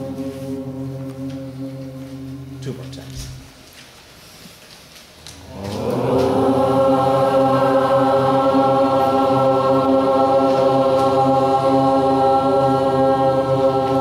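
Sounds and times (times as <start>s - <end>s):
low steady drone: 0.0s - 3.6s, 5.4s - 14.0s.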